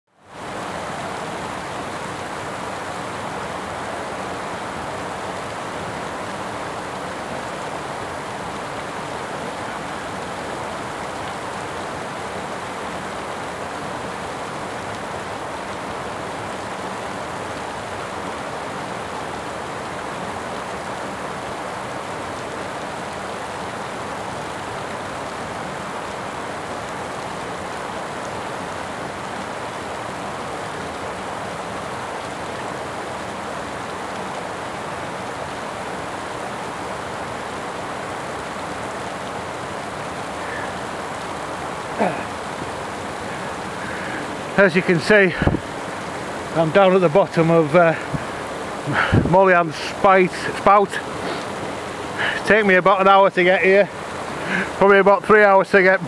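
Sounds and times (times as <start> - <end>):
waterfall splashing onto boulders: 0.1 - 56.0.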